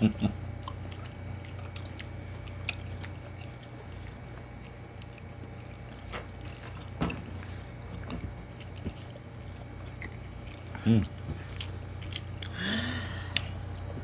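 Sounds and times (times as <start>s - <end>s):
steady low hum: 0.0s - 14.0s
wet chewing smacks: 0.5s - 12.6s.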